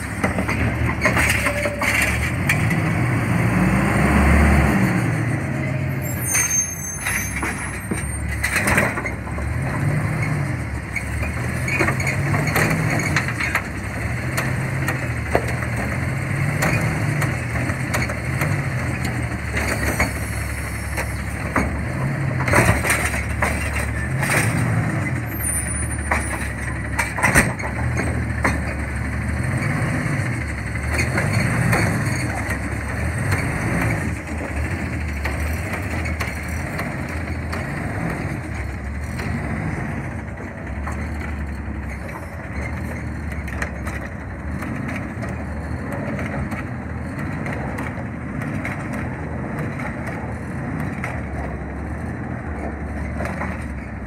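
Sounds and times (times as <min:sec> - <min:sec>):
garbage truck engine revving: 0:00.0 - 0:54.0.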